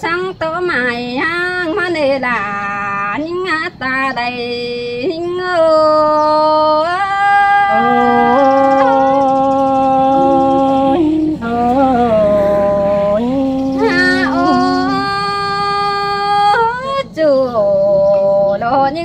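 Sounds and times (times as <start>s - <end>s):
person singing folk song: 0.0s - 19.0s.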